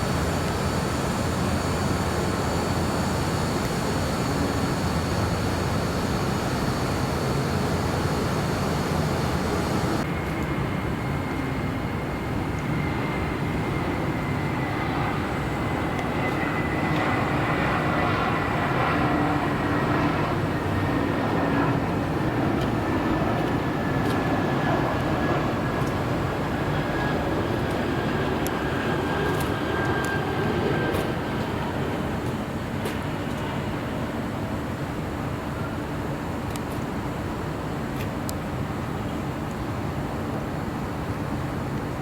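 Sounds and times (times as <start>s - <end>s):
jet engines rumbling: 0.0s - 33.8s
jet engine whine falling in pitch: 0.0s - 34.0s.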